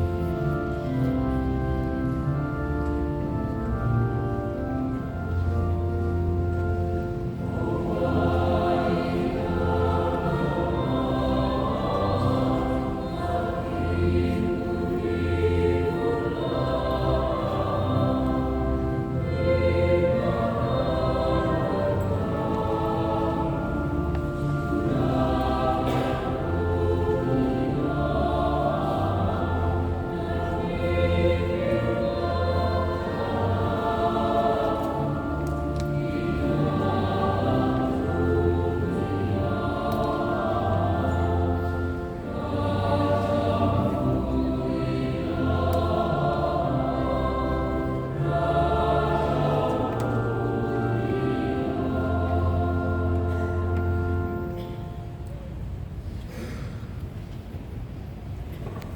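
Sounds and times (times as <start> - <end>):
choir singing in parts: 6.8 - 55.0.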